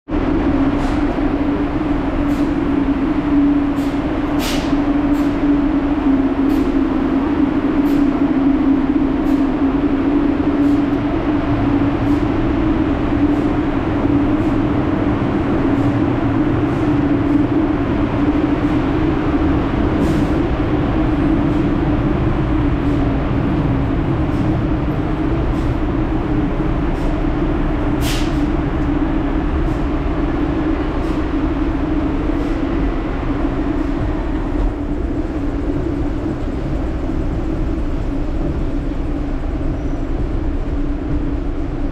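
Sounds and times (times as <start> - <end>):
low machine hum: 0.1 - 41.9
rumble: 0.1 - 41.9.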